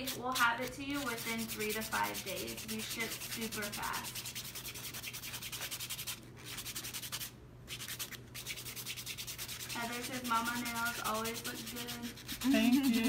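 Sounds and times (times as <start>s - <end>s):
nail buffer rubbing fingernail: 0.0s - 13.0s.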